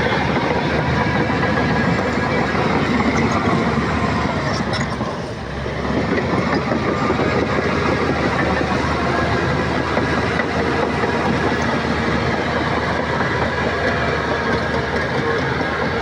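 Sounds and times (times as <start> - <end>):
bulldozer diesel engine running: 0.0 - 16.0
steel tracks clattering: 0.0 - 16.0.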